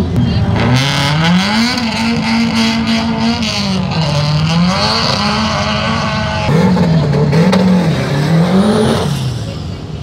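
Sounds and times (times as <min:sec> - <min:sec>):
car engine revving in blips: 0:00.0 - 0:09.6
race car engine running hard: 0:00.0 - 0:10.0.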